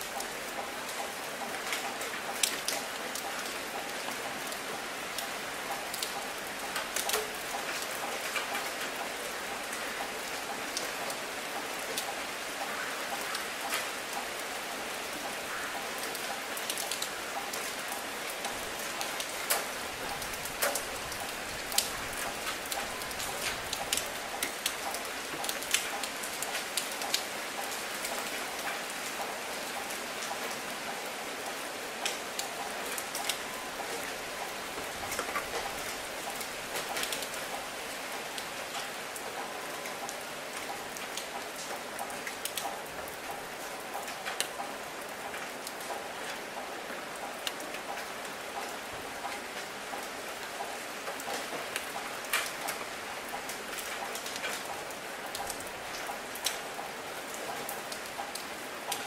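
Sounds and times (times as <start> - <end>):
light rain on asphalt: 0.0 - 59.0.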